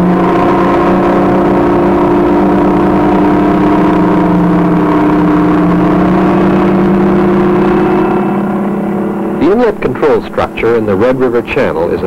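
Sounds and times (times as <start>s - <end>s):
heavy machinery engines droning: 0.0s - 12.0s.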